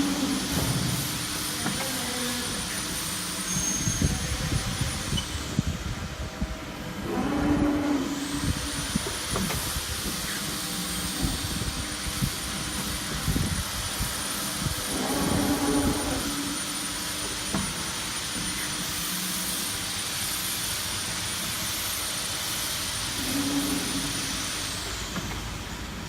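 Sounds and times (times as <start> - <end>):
hydraulic hum rising: 0.0 - 26.0.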